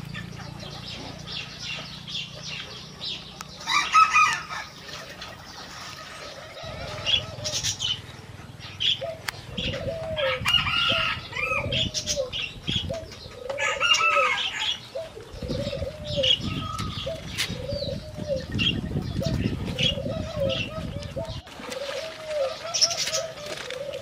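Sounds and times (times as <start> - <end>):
birds calling and chirping: 0.0 - 24.0
dove cooing: 0.0 - 24.0.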